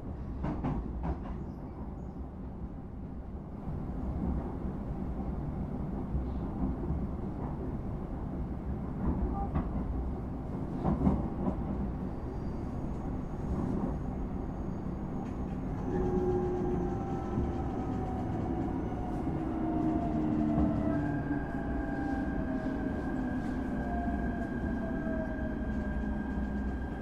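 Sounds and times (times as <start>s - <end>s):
train wheels rumbling on rails: 0.0s - 2.2s, 3.6s - 27.0s.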